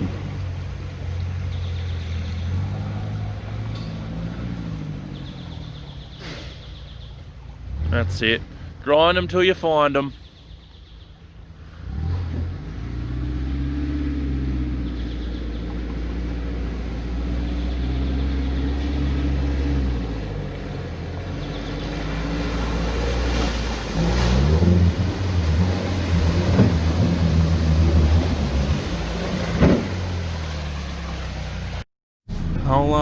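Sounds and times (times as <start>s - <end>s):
car engine revving: 0.0s - 7.0s, 11.6s - 31.8s.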